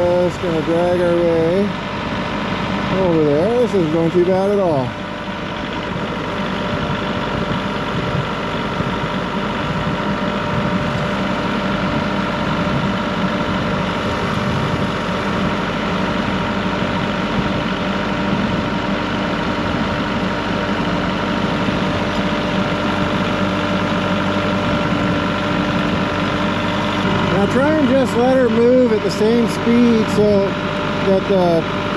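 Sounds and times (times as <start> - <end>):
constant even whine: 0.0 - 31.9
vehicle engine idling: 0.0 - 31.9.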